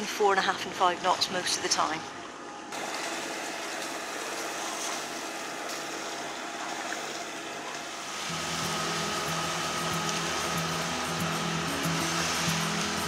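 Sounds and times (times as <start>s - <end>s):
boat engine droning: 0.0s - 13.0s
deep hum with high tone: 0.0s - 13.0s
water rushing along hull: 0.8s - 13.0s.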